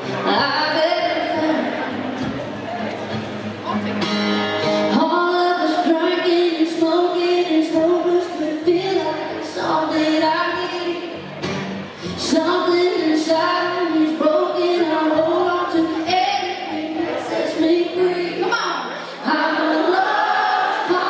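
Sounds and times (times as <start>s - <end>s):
country band playing: 0.0s - 18.5s.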